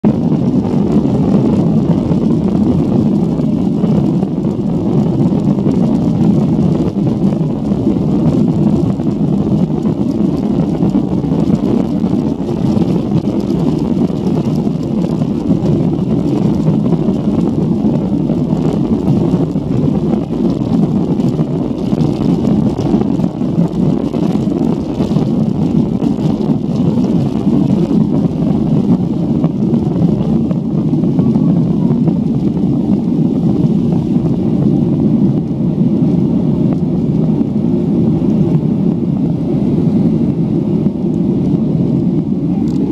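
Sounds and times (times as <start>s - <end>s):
jet engines and wheels rumbling: 0.0s - 42.9s.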